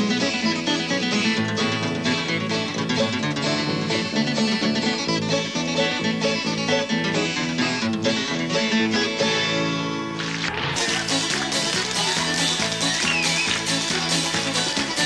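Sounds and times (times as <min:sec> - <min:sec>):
instrumental country music: 0:00.0 - 0:15.0.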